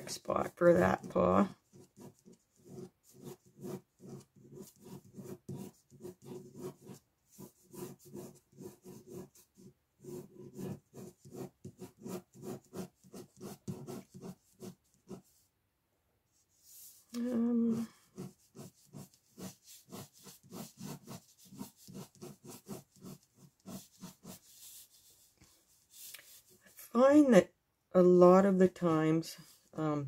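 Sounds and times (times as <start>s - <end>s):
pen scratching on paper: 0.0s - 15.4s, 17.8s - 26.7s.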